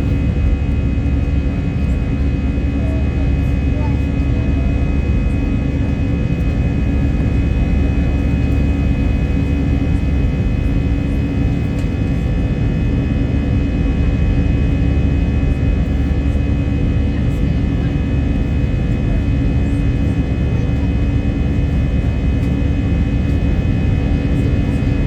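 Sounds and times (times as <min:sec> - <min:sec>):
jet engine whining: 0:00.0 - 0:25.0
jet engines rumbling: 0:00.0 - 0:25.0.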